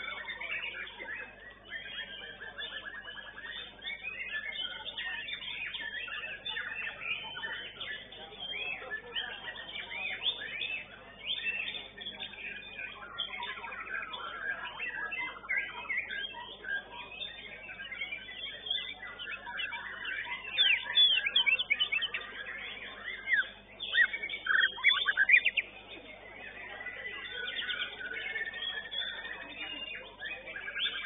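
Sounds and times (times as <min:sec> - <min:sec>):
bird singing whistled notes: 0:00.0 - 0:31.0.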